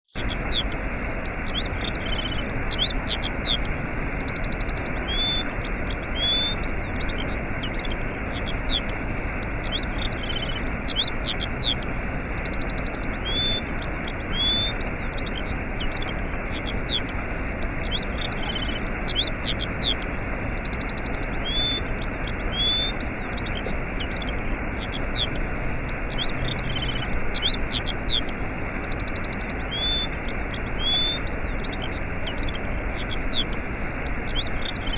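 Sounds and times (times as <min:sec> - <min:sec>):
small birds chirping and trilling: 0:00.0 - 0:34.9
waterfall rushing: 0:00.2 - 0:34.9.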